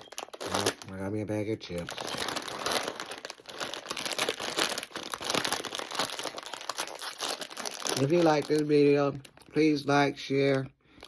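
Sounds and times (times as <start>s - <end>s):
chip bag crinkling: 0.0s - 11.0s.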